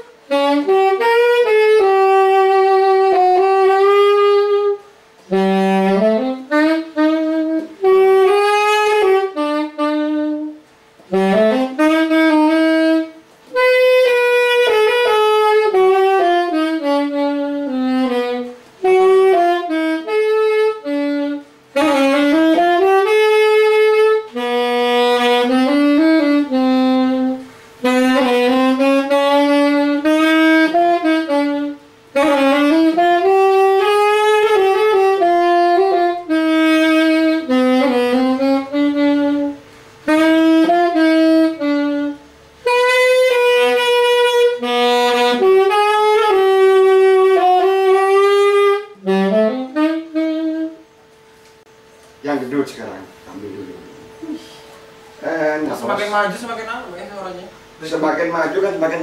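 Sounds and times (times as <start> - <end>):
solo saxophone melody: 0.0 - 59.0.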